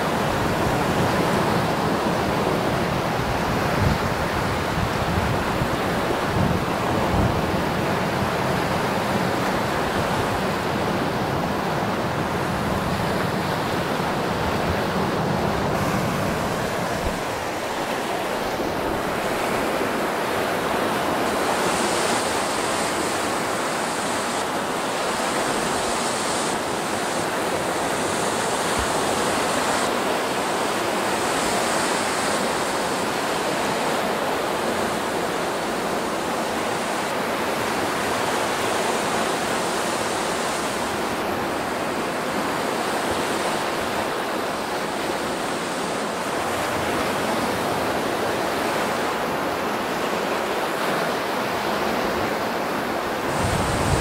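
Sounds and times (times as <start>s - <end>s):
lake surf washing against shore: 0.0s - 54.0s.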